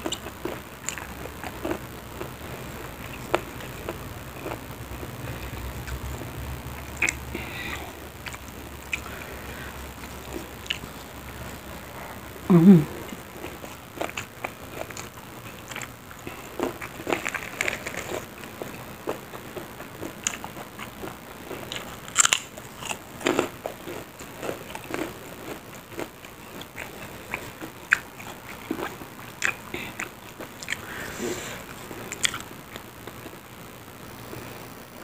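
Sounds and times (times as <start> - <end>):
crunching crispy crackers: 0.0 - 12.0, 12.9 - 33.5.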